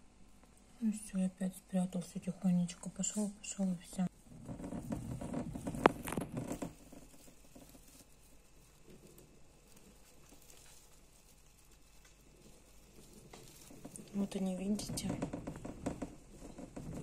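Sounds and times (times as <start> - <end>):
hamsters rustling in wood shavings: 0.8 - 17.0.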